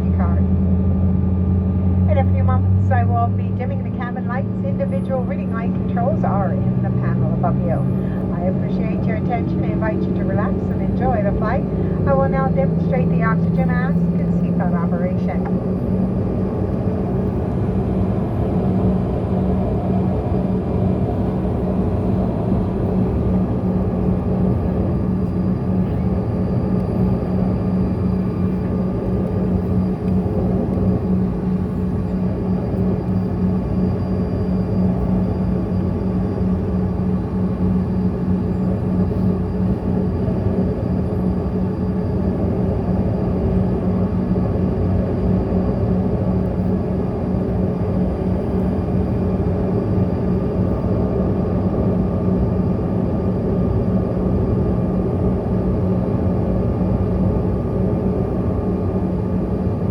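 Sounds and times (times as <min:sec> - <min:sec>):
jet engines heard inside cabin: 0:00.0 - 0:59.9.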